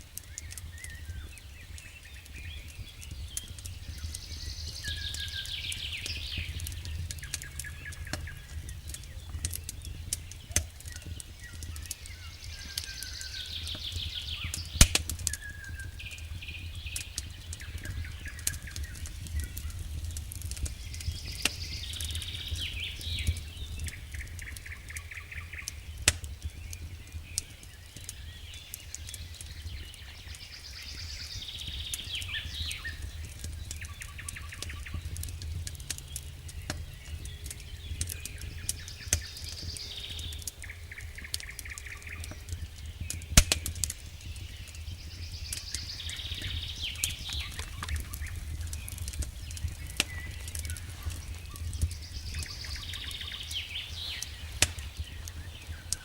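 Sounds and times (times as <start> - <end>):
wood fire crackling: 0.0 - 56.0
birds chirping and trilling: 0.2 - 56.0.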